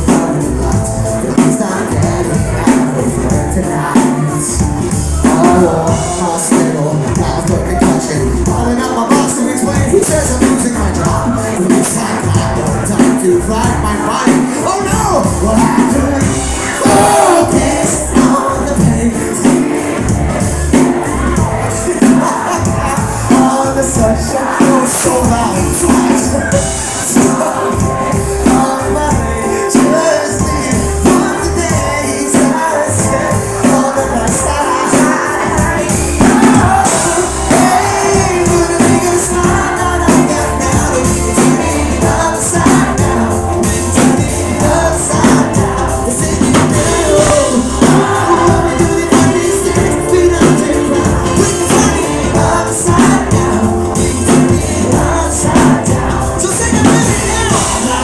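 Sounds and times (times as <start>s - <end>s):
drums steady beat: 0.0s - 58.0s
electric guitars: 0.0s - 58.0s
lead singer: 0.0s - 58.0s.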